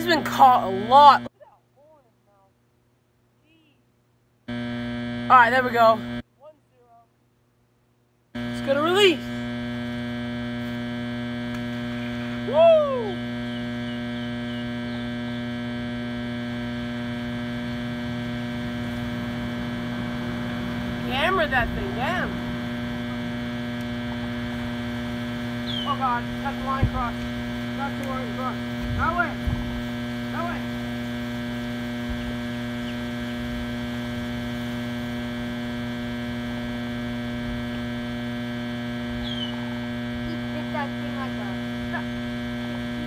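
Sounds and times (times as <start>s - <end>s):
generator hum: 0.0s - 43.0s.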